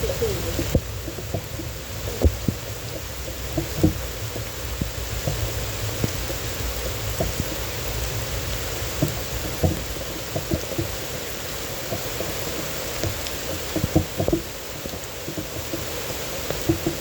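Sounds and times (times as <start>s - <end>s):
heavy rain: 0.0s - 17.0s
large raindrops knocking on surface: 0.0s - 17.0s.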